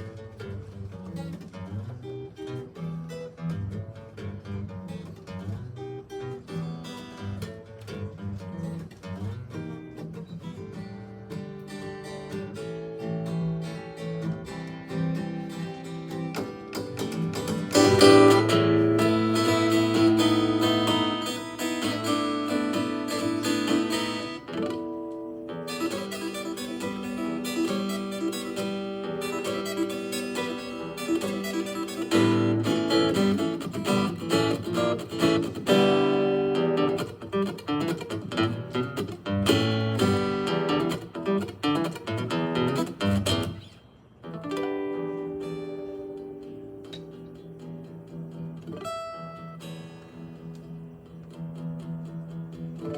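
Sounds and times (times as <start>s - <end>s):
fingerstyle acoustic guitar: 0.0s - 52.9s.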